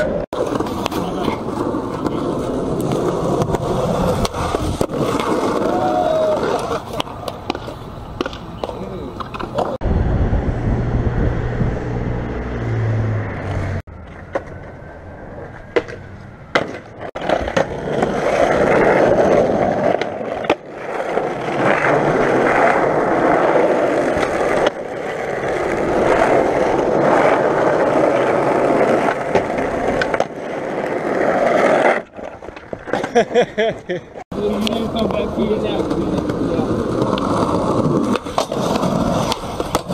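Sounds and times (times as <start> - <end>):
skateboard clacks: 0.0 - 9.8, 15.4 - 39.9
skateboard wheels rolling: 0.0 - 39.9.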